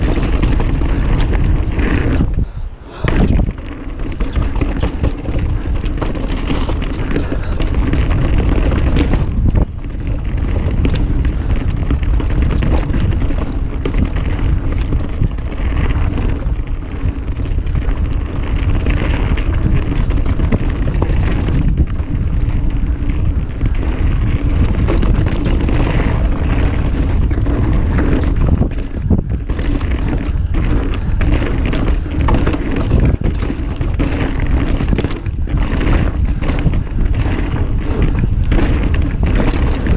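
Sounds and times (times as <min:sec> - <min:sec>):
bike rattles and knocks: 0:00.0 - 0:39.9
bike tyre noise on dirt: 0:00.0 - 0:39.9.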